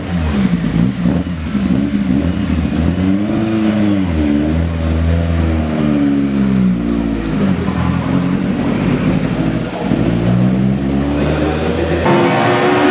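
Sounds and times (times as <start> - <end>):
race car engine revving: 0.0 - 12.9.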